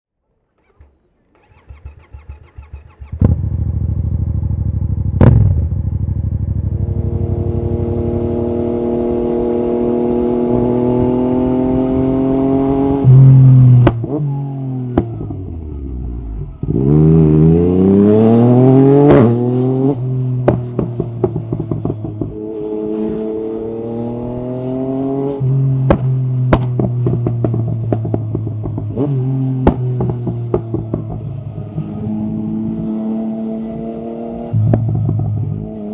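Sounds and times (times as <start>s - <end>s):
motorcycle engine revving: 0.6s - 35.9s.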